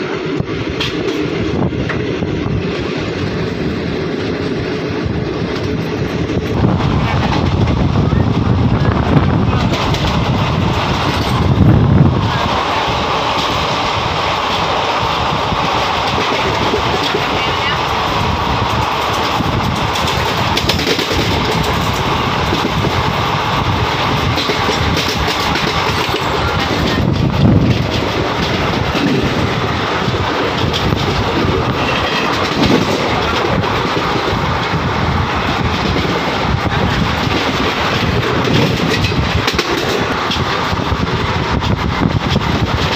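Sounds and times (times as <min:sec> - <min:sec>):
train rushing noise: 0:00.0 - 0:42.9
wheels clattering over rails: 0:00.7 - 0:42.9.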